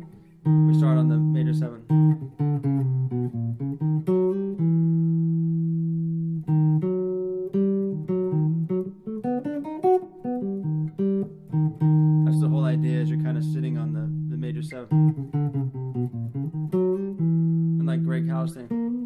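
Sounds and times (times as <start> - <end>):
jazz guitar lick: 0.0 - 19.0.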